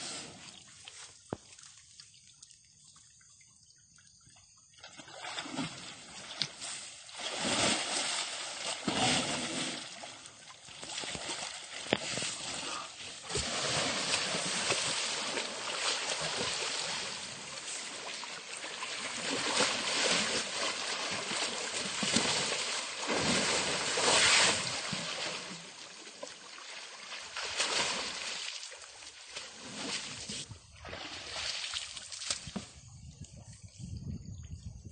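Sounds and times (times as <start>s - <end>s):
water sloshing and splashing: 0.4s - 33.8s.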